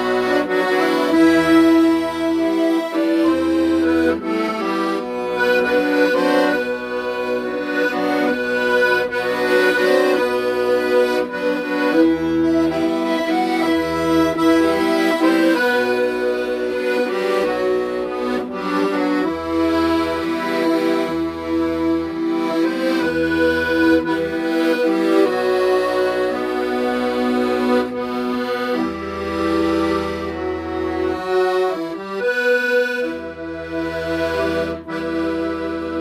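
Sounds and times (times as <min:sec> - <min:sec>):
accordion melody: 0:00.0 - 0:36.0
bass accompaniment: 0:00.0 - 0:36.0.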